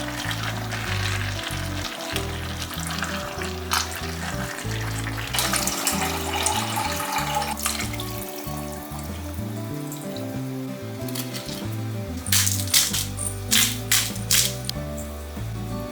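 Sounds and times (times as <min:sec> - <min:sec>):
stirring clicks: 0:00.0 - 0:09.3, 0:11.0 - 0:15.1
food sizzling in a pan: 0:00.0 - 0:15.8
background music: 0:00.0 - 0:15.9.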